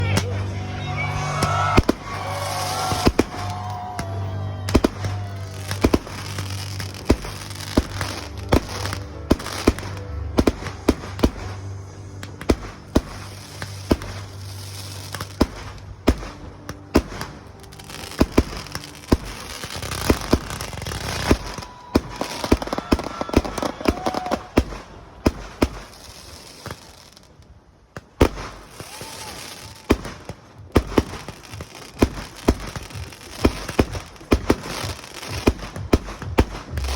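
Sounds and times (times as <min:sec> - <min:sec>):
background music: 0:00.0 - 0:36.9
fireworks bangs: 0:00.0 - 0:36.9
fireworks crackle: 0:00.0 - 0:36.9.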